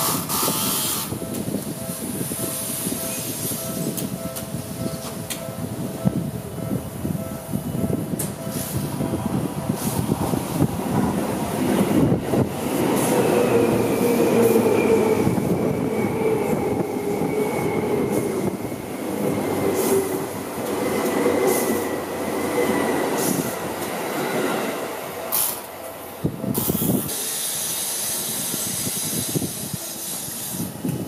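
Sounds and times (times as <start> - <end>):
train wheels on rail: 0.0 - 31.0.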